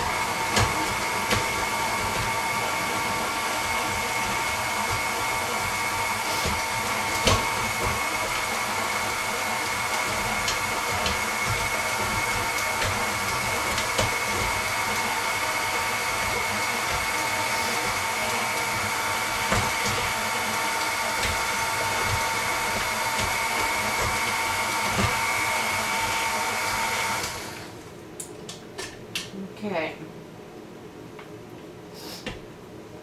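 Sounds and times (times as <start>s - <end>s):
stand mixer motor whine: 0.0s - 27.8s.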